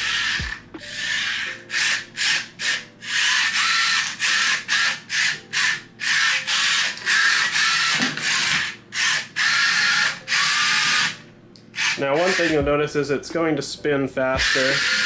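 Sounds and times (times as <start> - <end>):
robot drive motors whirring: 0.0 - 11.2, 11.8 - 12.6, 14.4 - 15.0.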